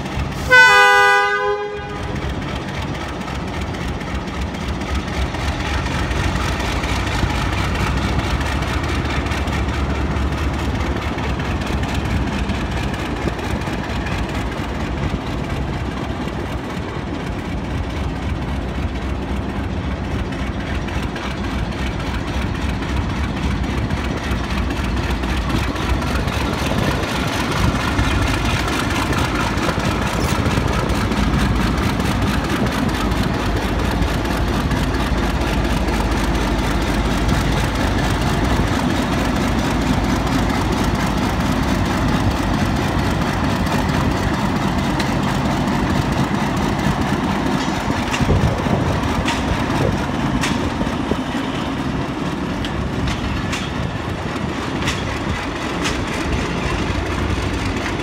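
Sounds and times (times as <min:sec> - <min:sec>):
diesel locomotive engine running: 0:00.0 - 0:58.0
train wheel clicks: 0:01.7 - 0:58.0.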